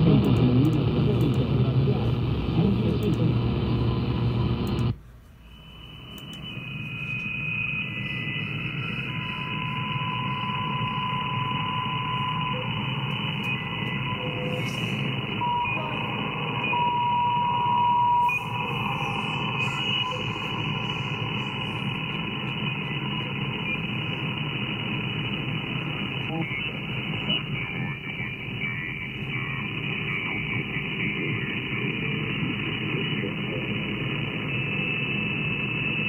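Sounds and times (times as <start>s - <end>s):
radio static hiss: 0.0s - 5.0s, 8.7s - 17.0s, 18.2s - 36.0s
radio whistle tones: 5.4s - 36.0s.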